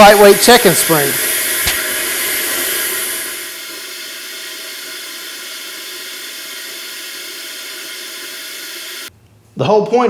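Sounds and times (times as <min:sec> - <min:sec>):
compressed air hissing: 0:00.0 - 0:09.1.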